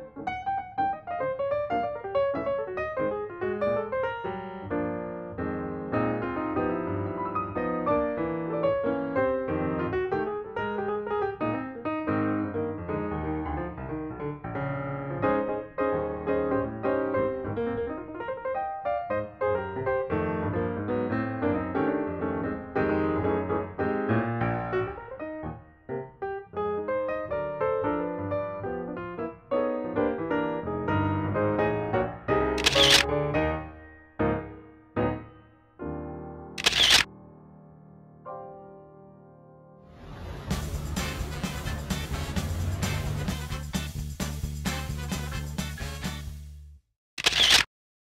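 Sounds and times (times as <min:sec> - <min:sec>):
gentle piano music: 0:00.0 - 0:39.9.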